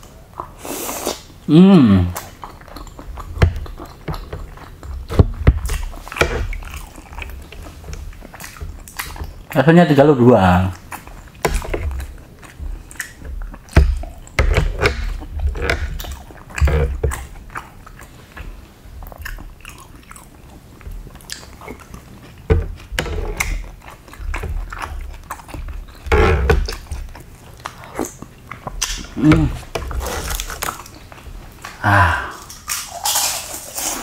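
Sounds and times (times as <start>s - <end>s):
chewing and biting food: 2.1s - 10.1s, 10.7s - 31.8s, 32.4s - 34.0s.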